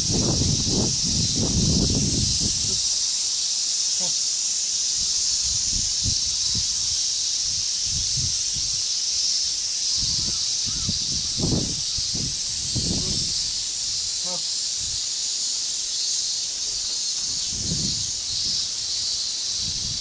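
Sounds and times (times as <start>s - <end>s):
insect chorus hiss: 0.0s - 20.0s.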